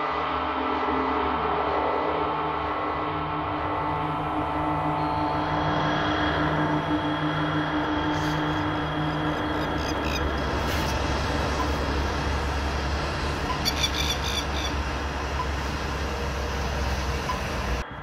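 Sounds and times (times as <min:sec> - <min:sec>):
low mechanical rumble: 0:00.0 - 0:18.0.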